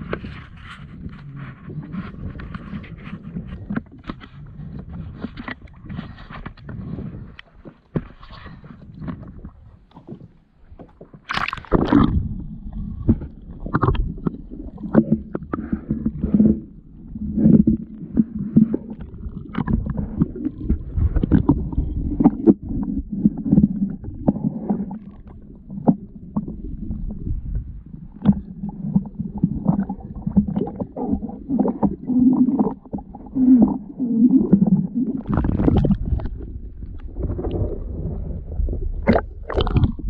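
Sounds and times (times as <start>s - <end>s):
water sloshing against hull: 0.0s - 40.0s.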